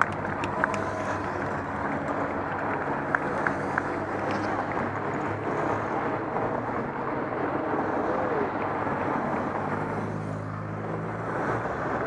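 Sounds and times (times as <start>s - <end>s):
cars driving slowly past: 0.0s - 12.0s
outdoor background noise: 0.0s - 12.0s.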